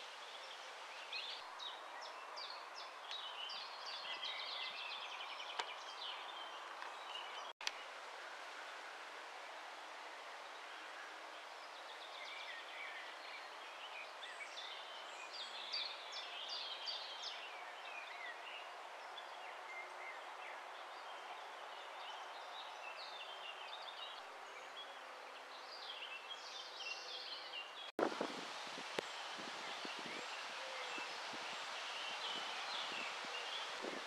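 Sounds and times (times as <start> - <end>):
small birds chirping: 0.0 - 8.0, 10.4 - 34.0
background hiss: 0.0 - 34.0.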